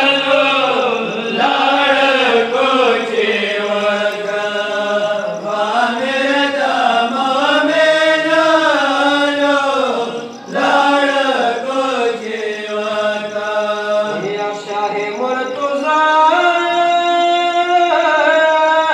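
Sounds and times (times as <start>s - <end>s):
person chanting a lament: 0.0s - 18.9s.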